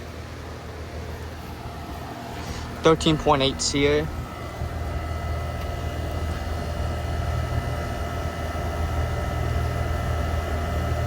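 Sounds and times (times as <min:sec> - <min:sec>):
compressor hum: 0:00.0 - 0:11.0
outdoor fan whoosh: 0:00.0 - 0:11.0.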